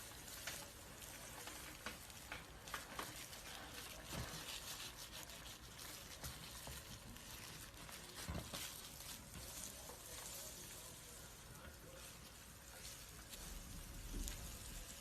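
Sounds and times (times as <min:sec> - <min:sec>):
snake skin crackling and rustling: 0:00.0 - 0:15.0.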